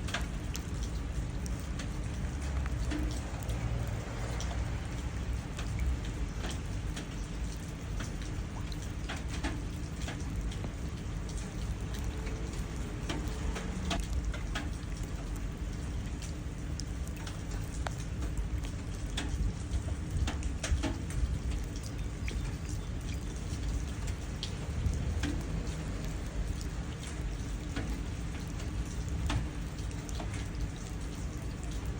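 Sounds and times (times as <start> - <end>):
rain splashing into puddles: 0.0 - 31.9
raindrops ticking: 0.0 - 31.9.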